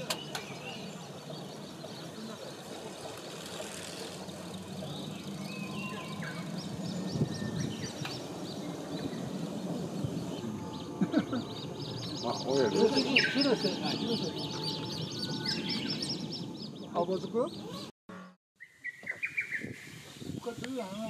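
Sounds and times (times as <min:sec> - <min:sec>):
birds calling and singing: 0:00.0 - 0:21.0.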